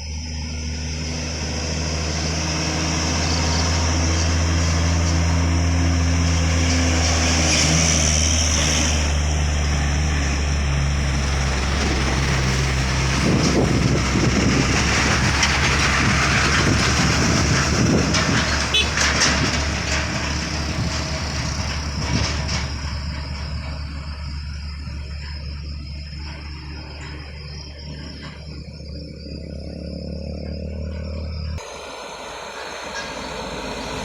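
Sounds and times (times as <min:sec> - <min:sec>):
heavy truck engine: 0:00.0 - 0:34.0
rough rattling rumble: 0:00.0 - 0:34.0.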